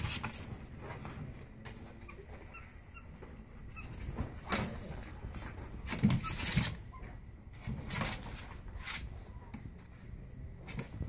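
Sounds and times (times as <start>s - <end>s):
puppies scrabbling on plastic: 0.0s - 11.0s.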